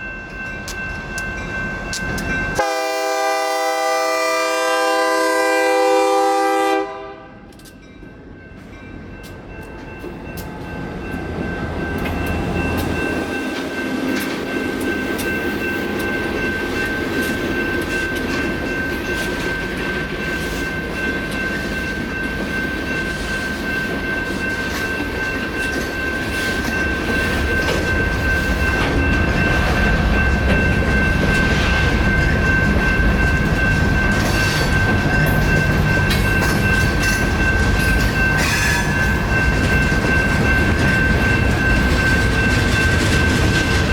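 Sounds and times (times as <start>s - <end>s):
crossing bells ringing: 0.0s - 43.9s
train rumbling with clicking wheels: 0.0s - 43.9s.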